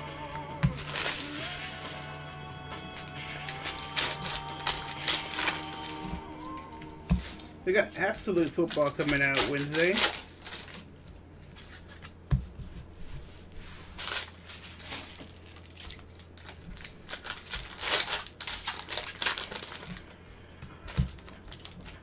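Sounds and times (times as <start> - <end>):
steady low hum: 0.0 - 22.0
foil wrappers crinkling: 0.6 - 12.2, 13.8 - 22.0.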